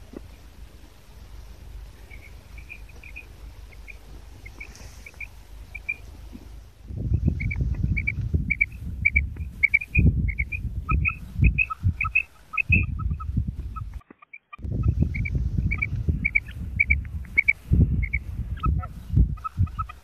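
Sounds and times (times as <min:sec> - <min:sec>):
low rumble on microphone: 0:00.0 - 0:14.0, 0:14.6 - 0:20.0
quail chirping: 0:01.2 - 0:20.0.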